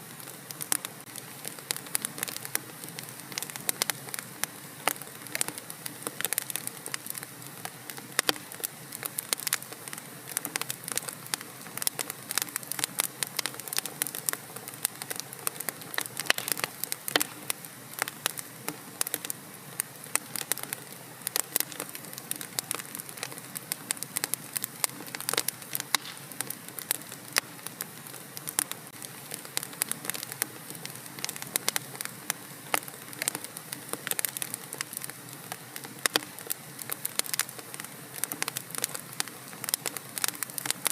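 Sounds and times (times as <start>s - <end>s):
wood fire crackling: 0.0s - 40.9s
sharp pops and snaps: 0.5s - 19.4s, 20.1s - 32.1s, 32.7s - 40.9s.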